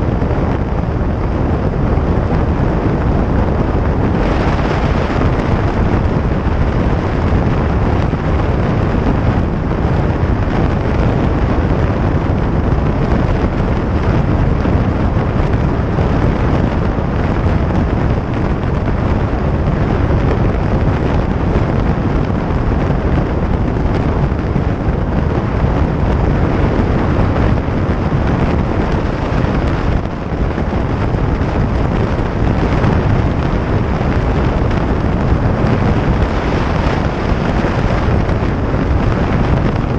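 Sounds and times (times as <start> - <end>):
motorcycle engine rumble: 0.0 - 39.9
wind buffeting microphone: 0.0 - 39.9.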